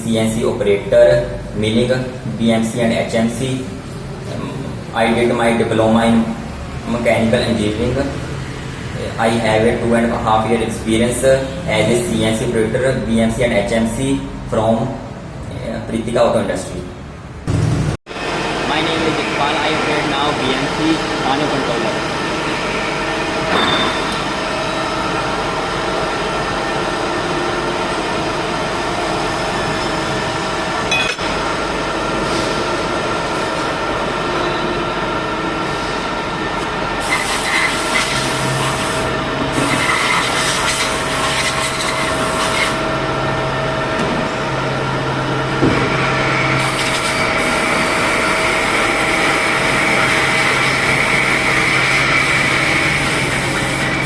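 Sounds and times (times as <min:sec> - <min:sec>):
high machine whine: 0:00.0 - 0:54.0
machine hum with steady tones: 0:00.0 - 0:54.0.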